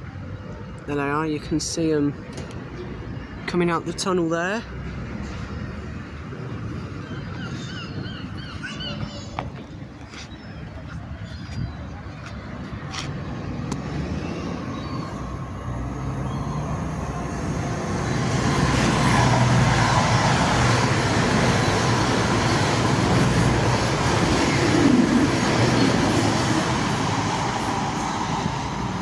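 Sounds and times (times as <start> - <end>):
diesel train passing: 0.0 - 29.0.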